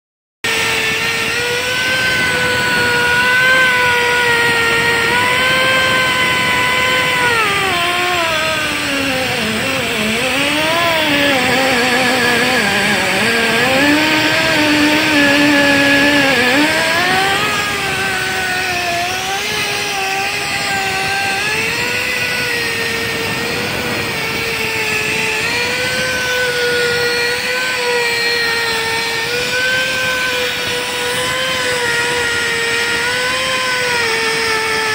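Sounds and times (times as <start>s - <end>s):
motor whining: 0.4s - 34.9s.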